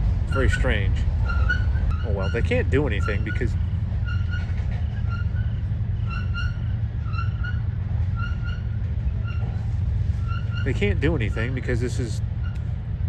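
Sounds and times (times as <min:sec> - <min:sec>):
train idling low rumble: 0:00.0 - 0:13.0.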